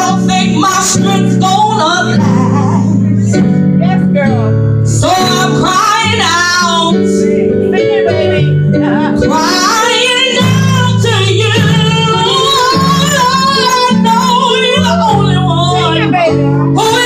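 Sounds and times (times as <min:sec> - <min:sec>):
sustained instrumental chords: 0:00.0 - 0:17.0
woman singing gospel: 0:00.0 - 0:17.0.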